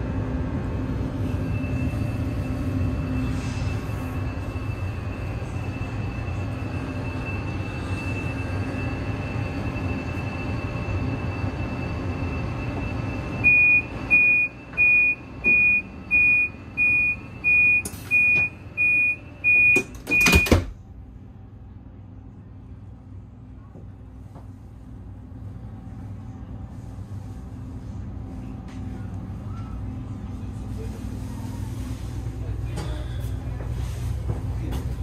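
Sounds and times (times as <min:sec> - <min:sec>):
steady train hum: 0:00.0 - 0:35.0.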